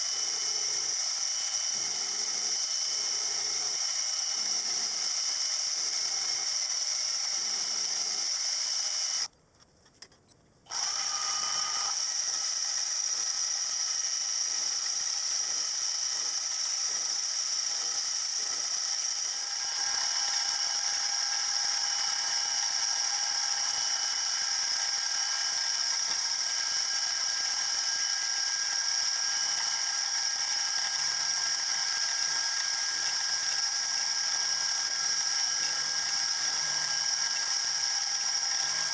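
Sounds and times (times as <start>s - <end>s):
machine tool whining: 0.0s - 9.3s, 10.7s - 38.9s.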